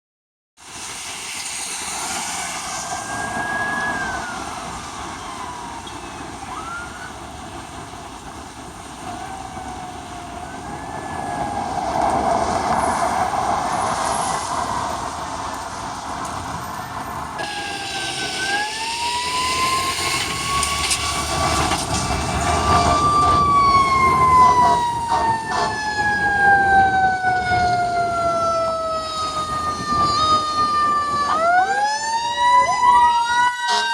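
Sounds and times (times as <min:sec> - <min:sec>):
fire engine sirens wailing: 0:00.6 - 0:33.9.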